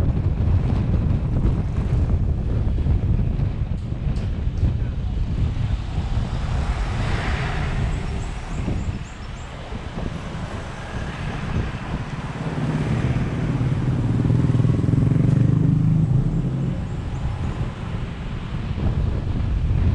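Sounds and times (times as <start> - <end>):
car road noise: 0.0 - 19.9
engine low hum: 0.0 - 19.9.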